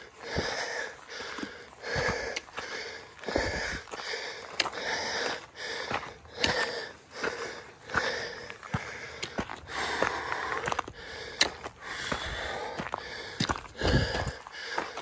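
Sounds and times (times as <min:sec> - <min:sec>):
footsteps crunching on dirt: 0:00.0 - 0:15.0
heavy rhythmic breathing: 0:00.0 - 0:15.0.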